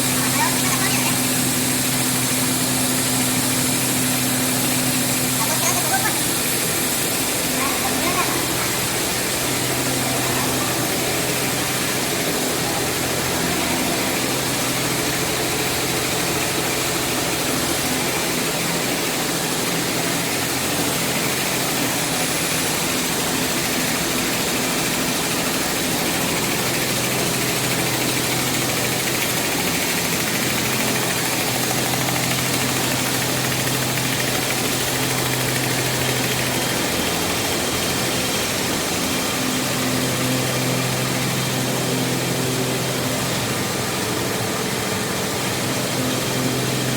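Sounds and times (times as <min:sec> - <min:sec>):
industrial machinery hum: 0:00.0 - 0:46.9.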